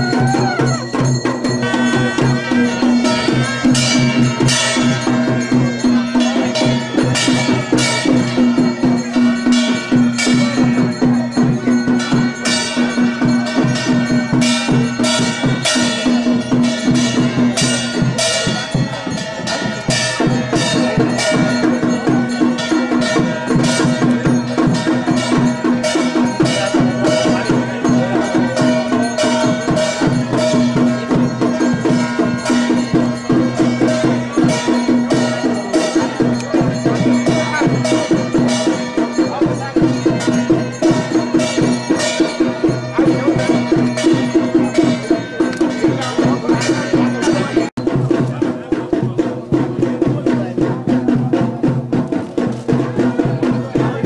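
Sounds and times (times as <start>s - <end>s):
drum and percussion music: 0.0s - 54.0s.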